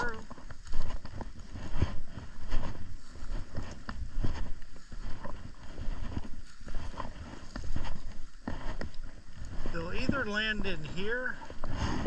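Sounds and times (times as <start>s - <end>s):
footsteps through field cover: 0.0s - 12.0s
rustling vegetation: 0.0s - 12.0s
wind buffeting microphone: 0.0s - 12.0s.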